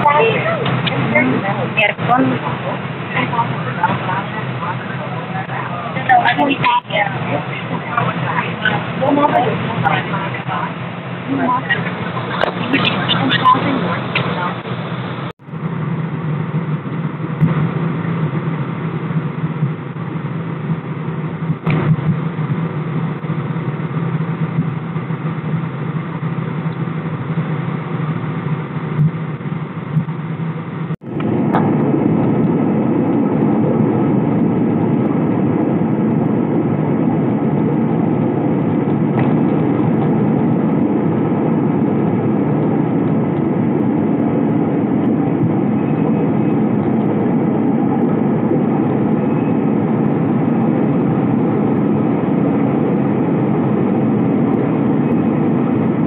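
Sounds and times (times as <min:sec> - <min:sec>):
airliner cabin hum: 0:00.0 - 0:56.0
jet engine and air rush: 0:00.0 - 0:56.0.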